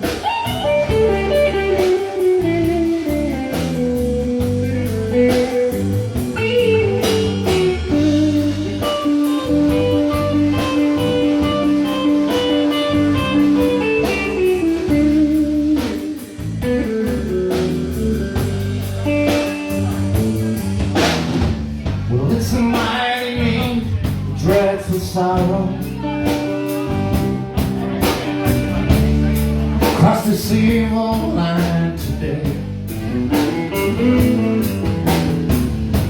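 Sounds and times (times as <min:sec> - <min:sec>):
lead guitar melody: 0:00.0 - 0:36.0
live country-blues band: 0:00.0 - 0:36.0.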